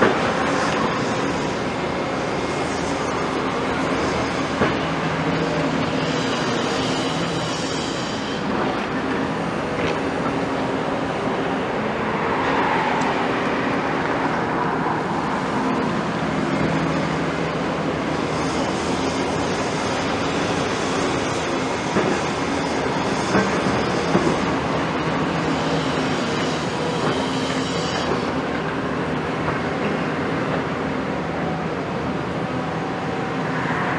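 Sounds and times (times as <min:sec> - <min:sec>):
excavator diesel engines running: 0:00.0 - 0:33.9.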